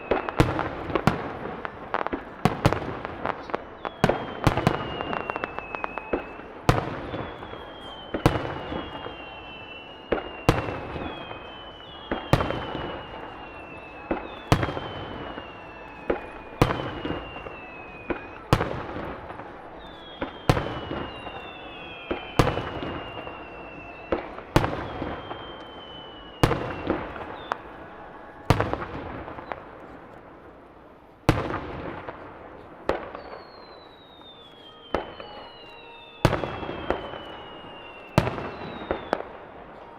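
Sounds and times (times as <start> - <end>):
falling firework whistles: 0.0 - 30.3, 31.3 - 39.9
firework crackling: 0.0 - 39.9.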